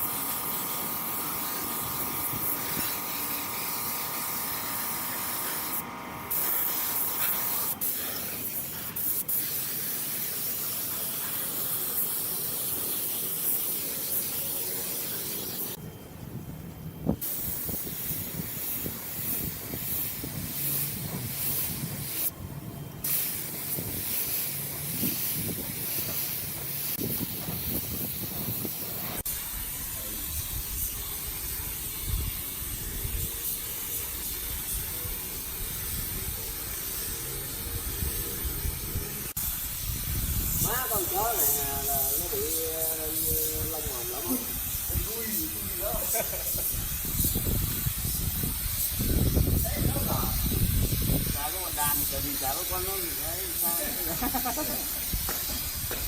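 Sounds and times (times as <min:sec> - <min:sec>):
spray gun hissing: 0:00.0 - 0:15.8, 0:17.0 - 0:22.4, 0:23.0 - 0:56.0.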